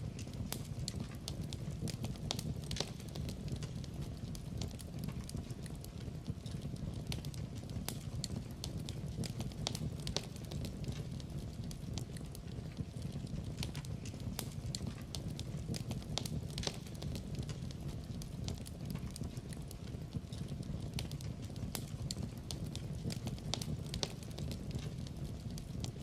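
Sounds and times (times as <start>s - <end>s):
low rumble of burning logs: 0.0s - 26.0s
sharp pops and snaps: 0.0s - 26.0s
wood fire crackling: 0.0s - 26.0s.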